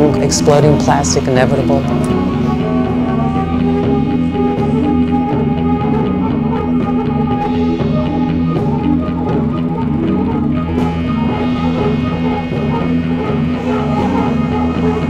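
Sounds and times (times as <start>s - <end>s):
rock music with guitar and drums: 1.9s - 15.0s.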